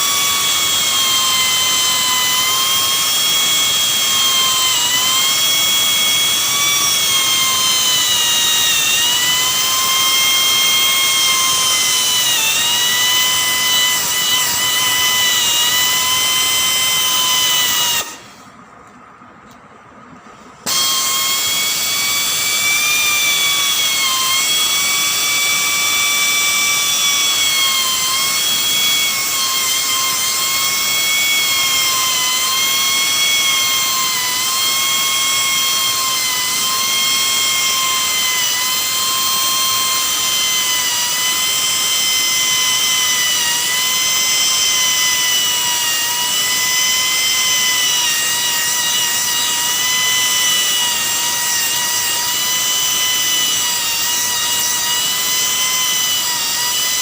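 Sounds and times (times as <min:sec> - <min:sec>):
rotary power tool whining: 0:00.0 - 0:18.5, 0:20.6 - 0:57.0.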